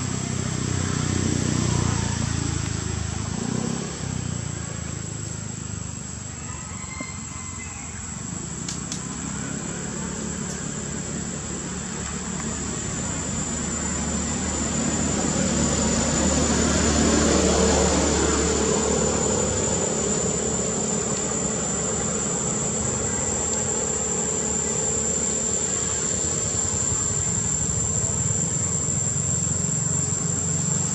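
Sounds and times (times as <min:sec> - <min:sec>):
distant engine drone: 0:00.0 - 0:30.9
steady high-pitched whine: 0:00.0 - 0:30.9.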